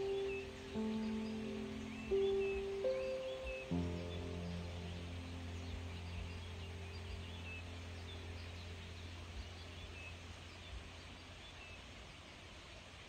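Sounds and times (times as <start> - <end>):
steady low hum: 0.0 - 11.7
waterbirds chirping: 0.0 - 13.0.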